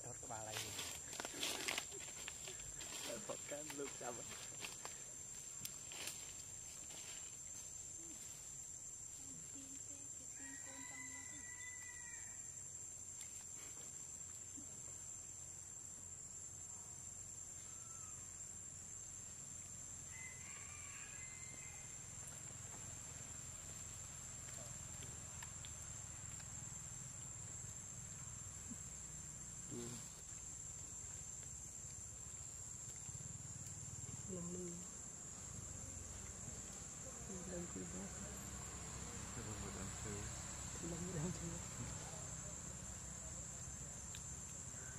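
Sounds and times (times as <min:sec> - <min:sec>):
high-pitched insect drone: 0:00.0 - 0:44.9.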